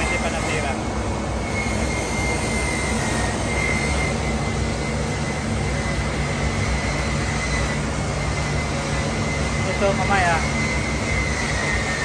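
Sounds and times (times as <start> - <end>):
factory machinery hum and whine: 0.0 - 12.0.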